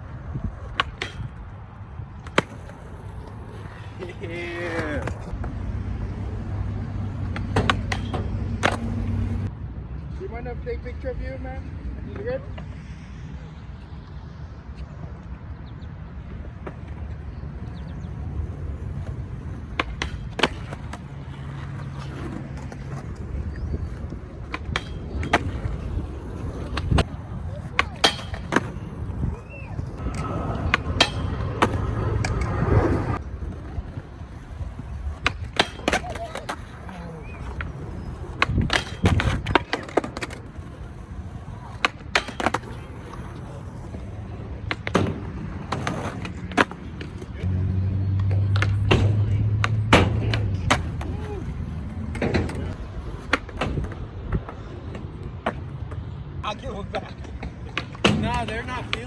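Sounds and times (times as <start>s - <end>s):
skateboard wheels rolling on concrete: 0.0s - 59.0s
skateboard clacks: 0.4s - 9.5s, 16.2s - 47.5s, 48.2s - 56.2s, 56.8s - 59.0s.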